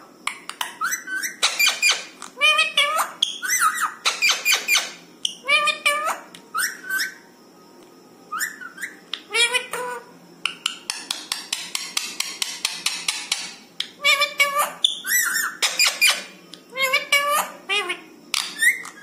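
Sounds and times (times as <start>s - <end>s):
parakeet calling and chattering: 0.3s - 7.3s, 8.3s - 19.0s.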